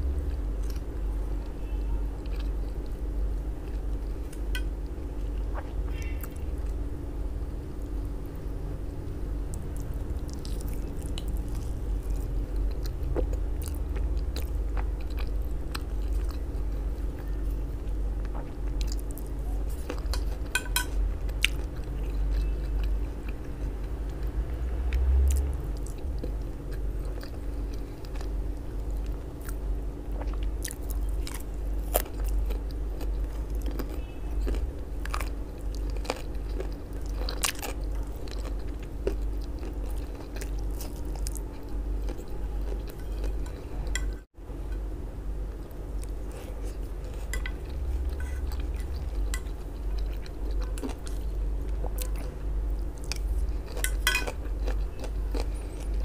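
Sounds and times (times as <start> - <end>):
biting and chewing food: 9.5 - 44.9, 45.5 - 56.0.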